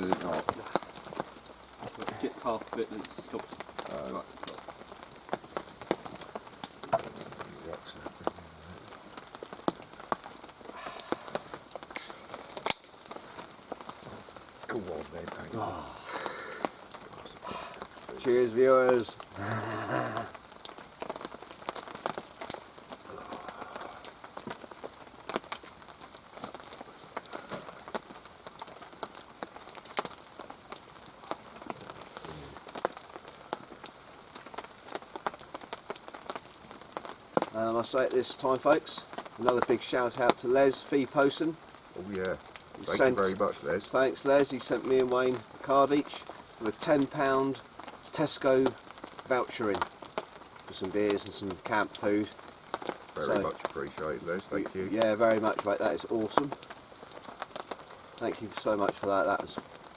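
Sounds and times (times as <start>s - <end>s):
raindrops tapping on a surface: 0.0s - 59.9s.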